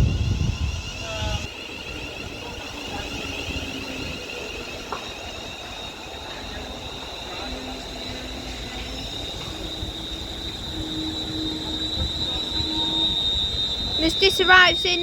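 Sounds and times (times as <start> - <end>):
electric train arriving: 0.0 - 15.0
high-pitched train whine: 0.0 - 15.0
train rumble: 0.0 - 15.0.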